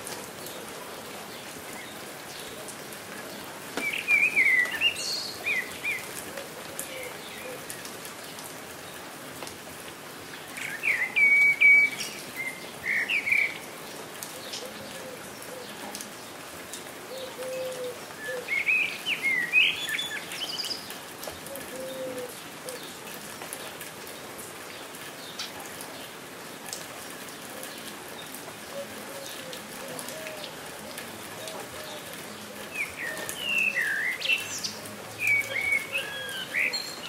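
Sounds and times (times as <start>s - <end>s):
rain patter: 0.0s - 37.0s
songbirds chirping: 0.2s - 37.0s.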